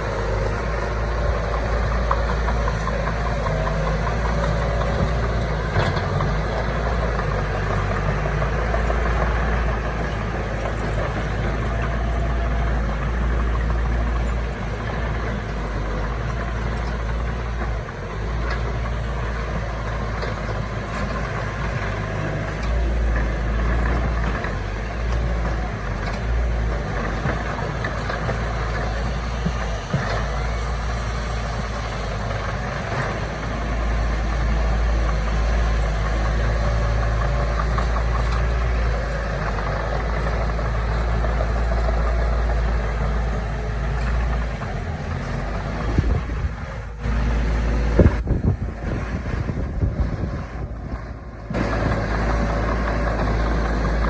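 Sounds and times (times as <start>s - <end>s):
diesel engines rumbling: 0.0s - 54.0s.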